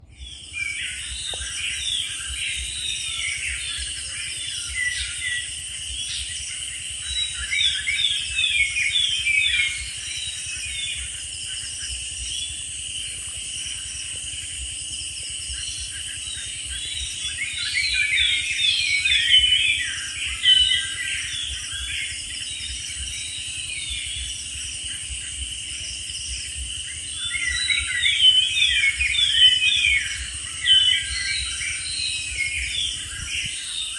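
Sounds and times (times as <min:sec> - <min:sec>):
high insect hum: 0:00.0 - 0:33.9
small birds chirping: 0:00.0 - 0:33.9.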